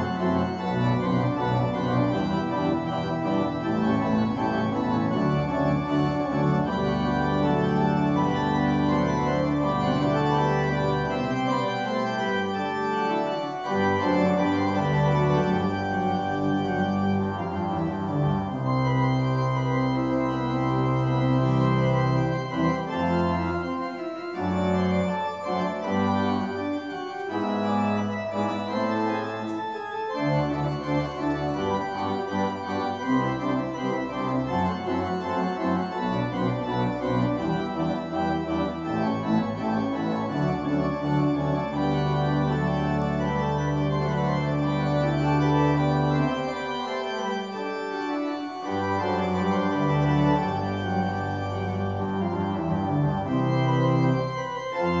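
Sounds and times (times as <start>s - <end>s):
church organ playing chords: 0.0s - 55.0s.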